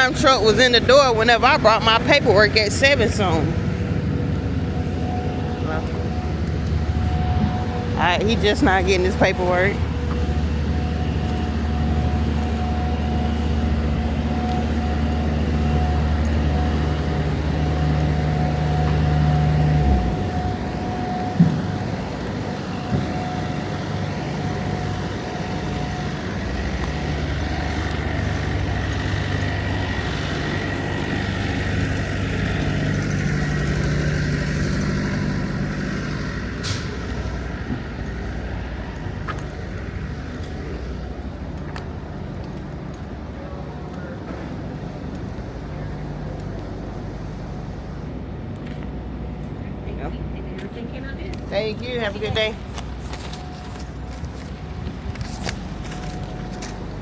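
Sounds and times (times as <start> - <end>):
quieter idling engines: 0.0 - 57.0
truck engine idling: 0.0 - 57.0.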